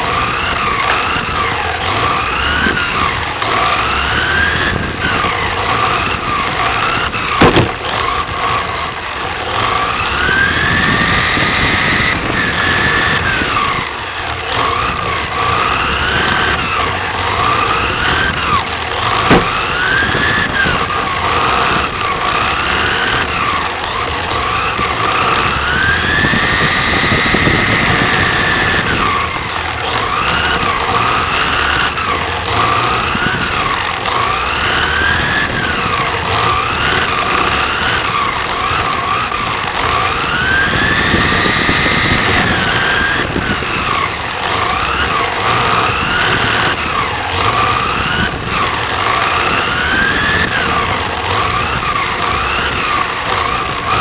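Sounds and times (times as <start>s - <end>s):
rc car drivetrain whine: 0.0s - 54.0s.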